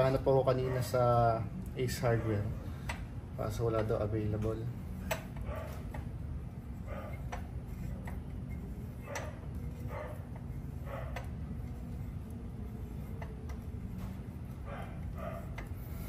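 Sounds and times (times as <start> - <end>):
low hum: 1.4 - 16.0.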